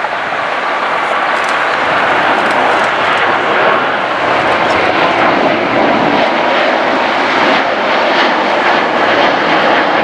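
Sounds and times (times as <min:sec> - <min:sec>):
jet airliner engines rushing: 0:00.0 - 0:10.0.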